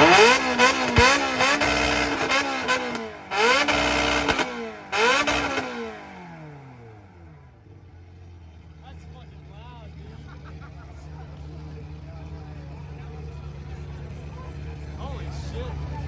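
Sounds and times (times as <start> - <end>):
car engine revving: 0.0 - 16.0
engine idling: 0.0 - 16.0.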